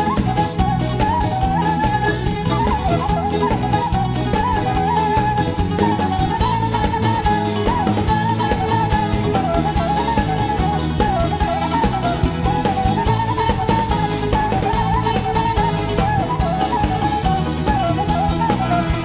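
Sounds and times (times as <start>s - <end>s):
live band music: 0.0s - 19.0s
steady drum beat: 0.0s - 19.0s.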